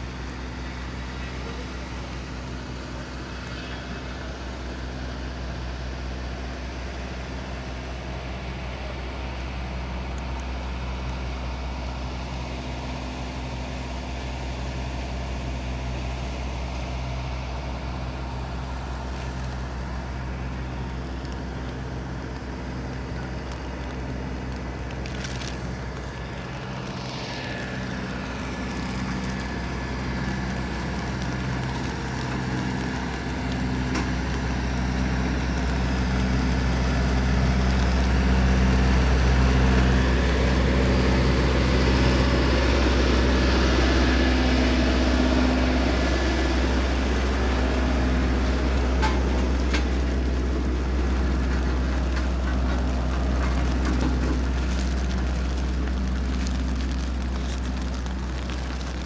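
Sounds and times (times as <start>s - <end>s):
heavy engine humming: 0.0s - 59.0s.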